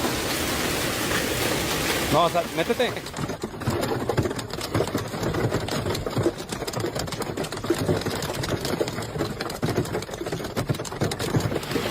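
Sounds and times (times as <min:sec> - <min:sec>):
hail pelting hard surfaces: 0:00.0 - 0:11.9.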